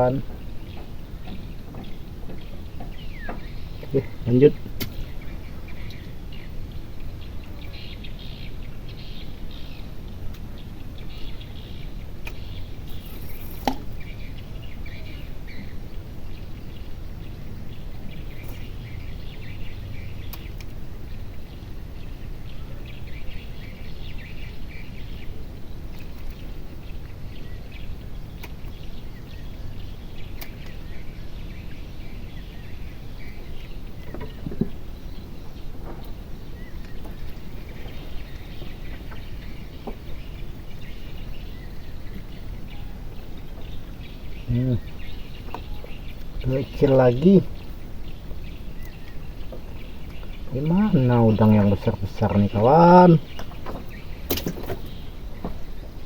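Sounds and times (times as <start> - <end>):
bird chirps: 0.0 - 56.0
low outdoor rumble: 0.0 - 56.0.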